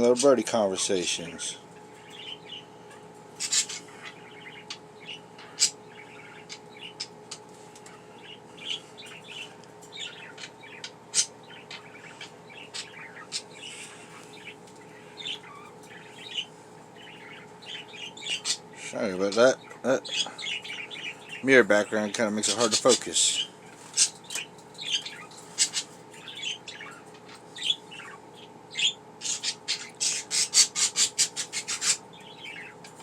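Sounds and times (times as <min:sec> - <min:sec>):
budgerigars chirping: 0:00.0 - 0:33.0
faint steady hum: 0:00.0 - 0:33.0.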